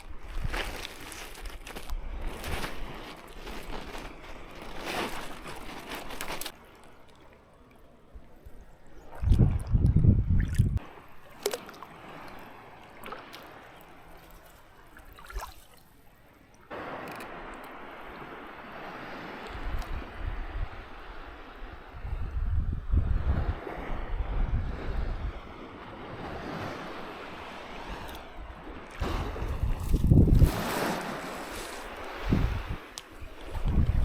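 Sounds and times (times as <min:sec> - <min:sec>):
water splashing and sloshing: 0:00.0 - 0:21.8, 0:25.4 - 0:34.0.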